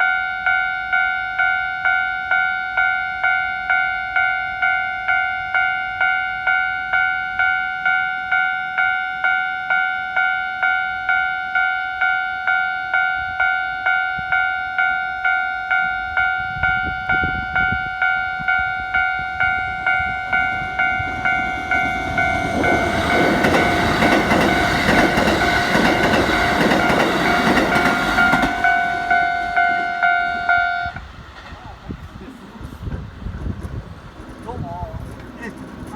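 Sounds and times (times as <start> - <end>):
level crossing bell ringing: 0.0 - 31.0
electric train passing: 0.0 - 35.9.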